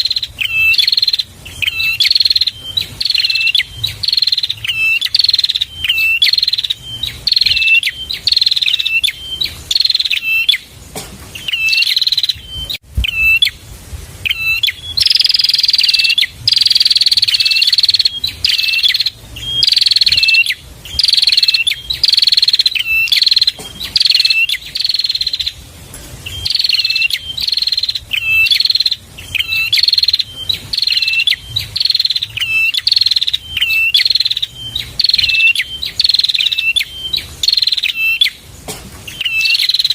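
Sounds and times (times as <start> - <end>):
bird singing high falling notes: 0.0 - 10.7, 11.4 - 13.6, 14.2 - 25.6, 26.2 - 38.4, 39.1 - 39.9.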